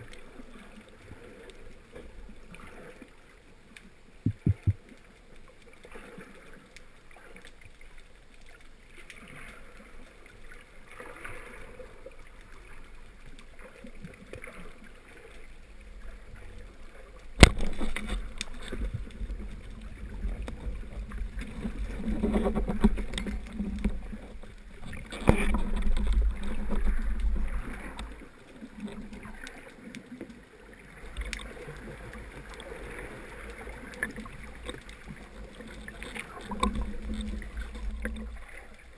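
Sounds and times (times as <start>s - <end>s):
underwater rushing and rumbling: 0.0s - 38.9s.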